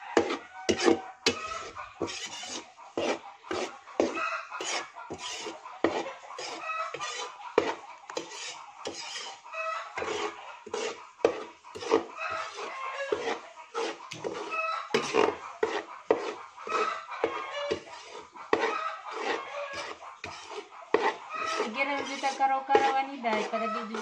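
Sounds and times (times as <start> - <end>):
chickens clucking: 0.0 - 24.0
metal spatula scraping a wok: 0.0 - 24.0.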